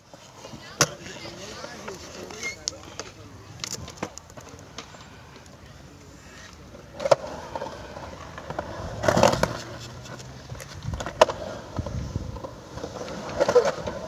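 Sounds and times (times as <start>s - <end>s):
skateboard wheels rumbling on concrete: 0.0s - 14.0s
skateboard clacking: 0.1s - 14.0s.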